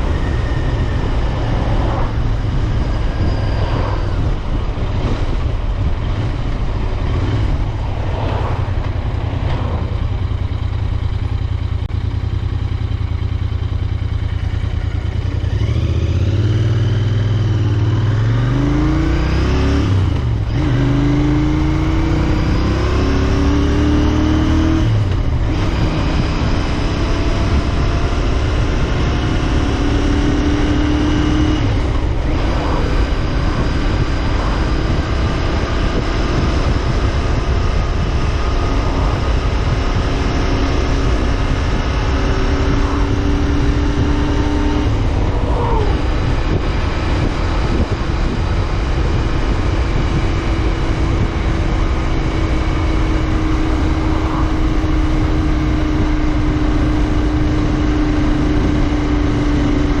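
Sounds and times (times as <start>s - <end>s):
motorcycle engine revving: 0.0s - 60.0s
road and wind noise: 0.0s - 60.0s.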